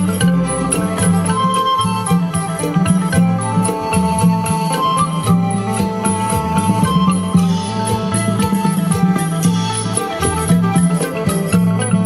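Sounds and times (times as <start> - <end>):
folk music with metallic hits: 0.0 - 12.0.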